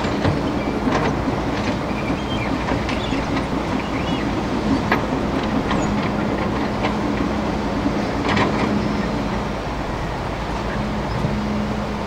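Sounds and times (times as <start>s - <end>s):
excavator diesel engine humming: 0.0s - 12.0s
river water rushing: 0.0s - 12.0s.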